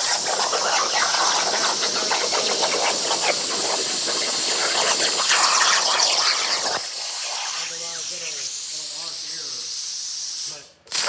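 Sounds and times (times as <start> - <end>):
plasma cutter arc hissing: 0.0 - 11.0.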